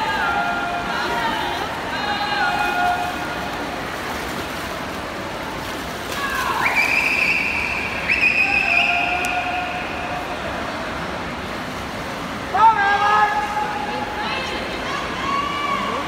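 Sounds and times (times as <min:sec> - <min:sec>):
crowd noise: 0:00.0 - 0:16.0
water splashing: 0:00.0 - 0:16.0.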